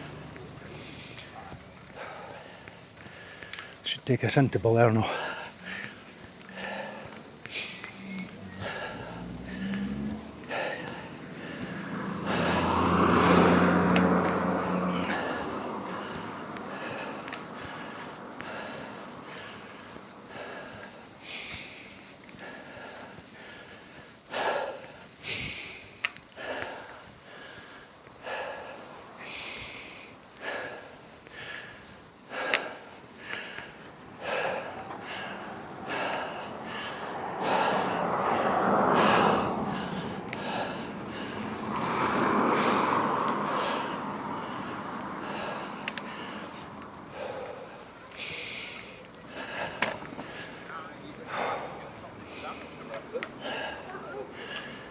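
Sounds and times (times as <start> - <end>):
person breathing hard: 0.0 - 3.8, 5.0 - 54.9.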